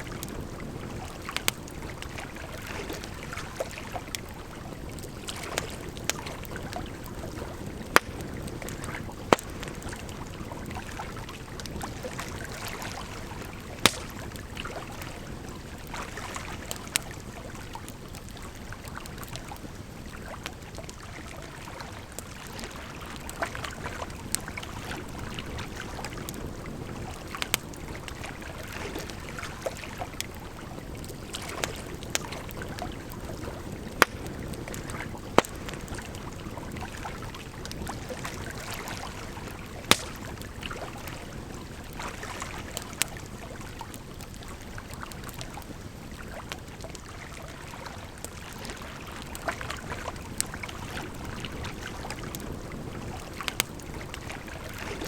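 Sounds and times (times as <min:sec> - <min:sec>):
campfire crackling and popping: 0:00.0 - 0:55.0
flowing water: 0:00.0 - 0:55.0.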